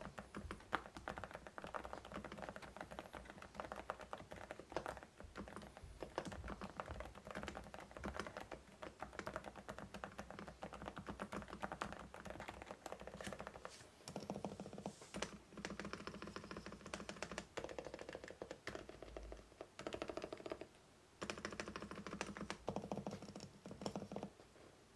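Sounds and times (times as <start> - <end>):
mechanical keyboard typing: 0.0 - 24.3.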